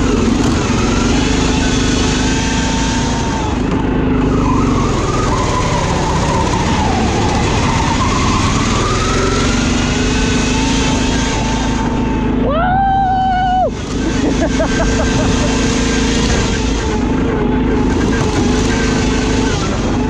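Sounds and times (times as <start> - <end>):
lawn mower engine revving: 0.0 - 20.0.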